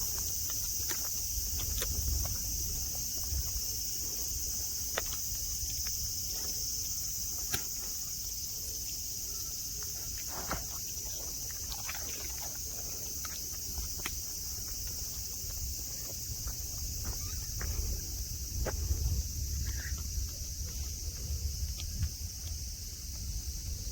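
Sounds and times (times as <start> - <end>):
cicadas droning: 0.0 - 23.9.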